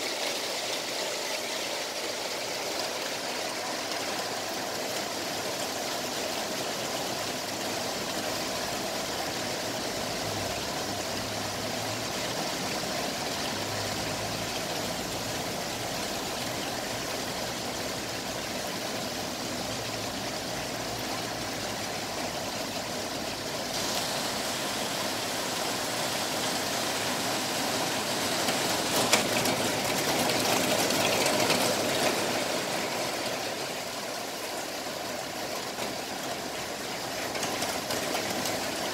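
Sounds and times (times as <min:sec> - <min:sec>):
heavy rain on a street: 0:00.0 - 0:38.9.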